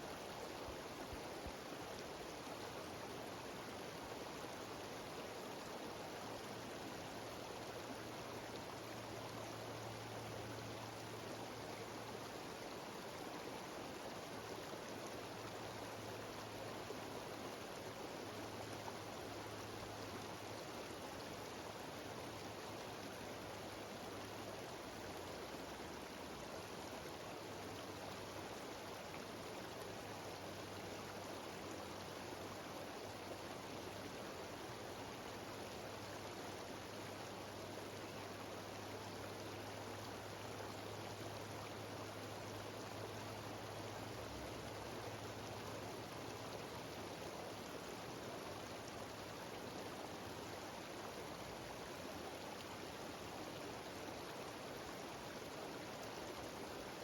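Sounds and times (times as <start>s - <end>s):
stream rushing over waterfalls: 0.0s - 57.0s.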